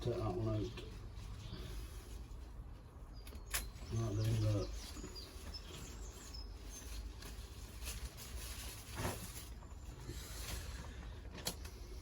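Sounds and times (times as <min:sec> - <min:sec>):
rustling plant foliage: 0:00.0 - 0:12.0.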